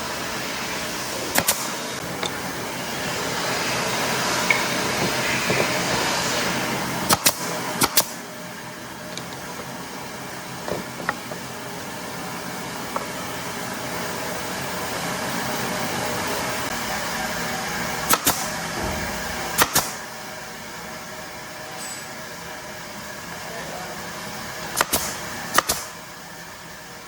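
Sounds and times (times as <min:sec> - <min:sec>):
mechanical whirring hum: 0:00.0 - 0:27.0.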